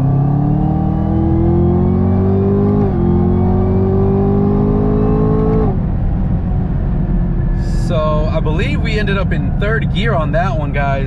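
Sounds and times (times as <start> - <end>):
car engine at full throttle: 0.0 - 11.0.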